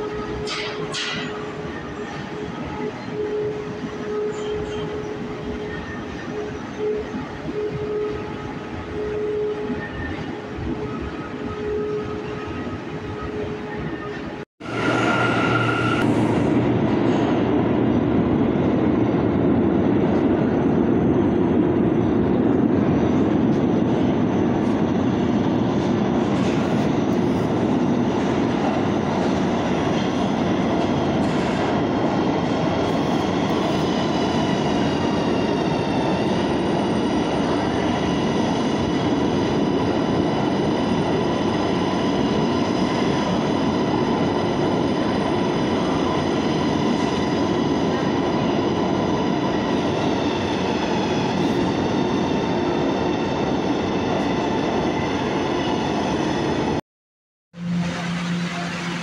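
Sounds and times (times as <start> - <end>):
steel wheels rumbling on rail: 0.0 - 56.8, 57.6 - 59.0.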